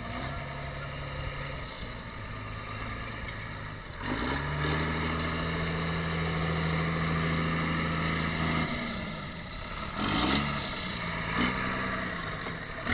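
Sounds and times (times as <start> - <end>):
tractor diesel engine revving: 0.0 - 12.9.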